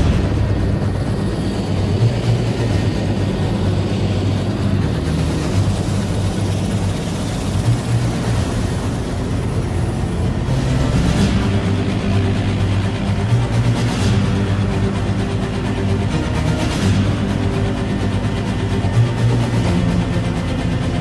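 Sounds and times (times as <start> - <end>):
helicopter engines and rotor droning: 0.0 - 21.0.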